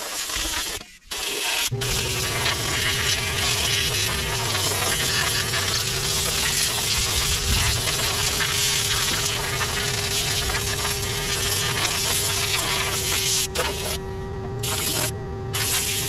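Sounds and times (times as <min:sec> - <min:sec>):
tractor engine droning: 0:01.7 - 0:16.0.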